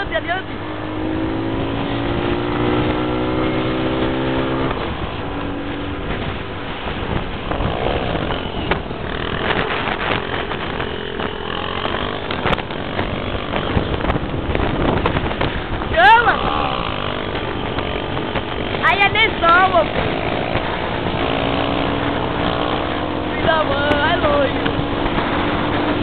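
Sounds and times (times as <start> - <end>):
motorcycle engine accelerating: 0.0 - 26.0
wind and road noise: 0.0 - 26.0.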